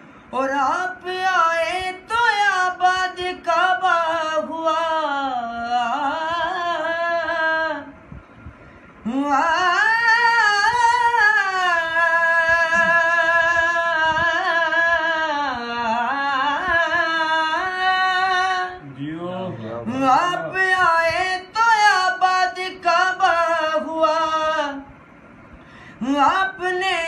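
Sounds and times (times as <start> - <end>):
man singing unaccompanied: 0.3 - 8.0, 9.0 - 24.9, 26.0 - 27.0.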